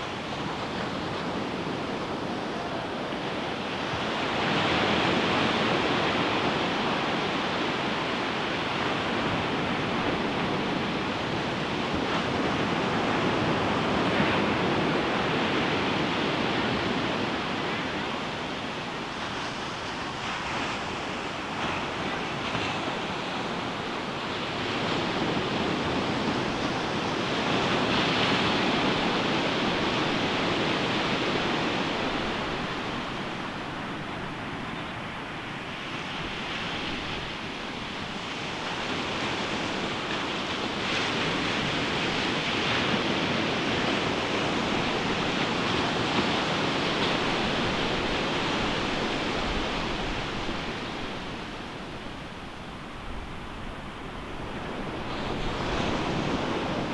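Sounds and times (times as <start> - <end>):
ocean waves breaking on beach: 0.0 - 56.9
wind on microphone: 0.0 - 56.9.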